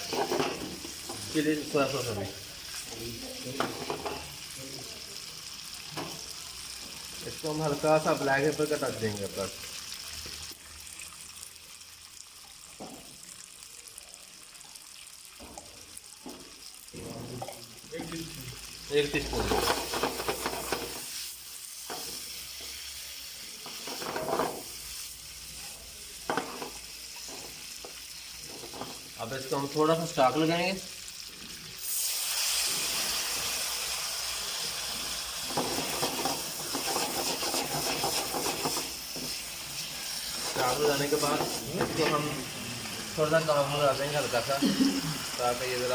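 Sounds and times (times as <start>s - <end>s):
chicken sizzling in a pan: 0.0s - 45.9s.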